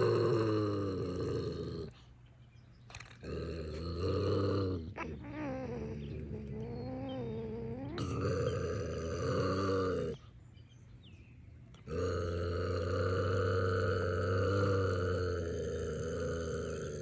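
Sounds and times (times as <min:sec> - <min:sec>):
bobcat growling: 0:00.0 - 0:02.0, 0:02.9 - 0:10.2, 0:11.8 - 0:17.0.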